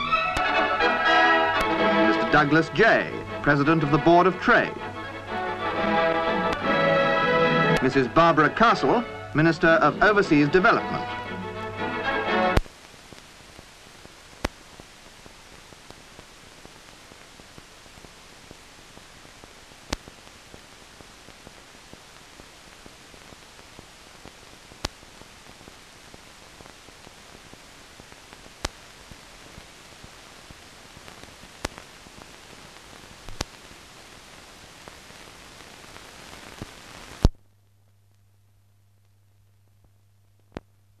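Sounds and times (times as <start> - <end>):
film soundtrack hiss and crackle: 0.0 - 41.0.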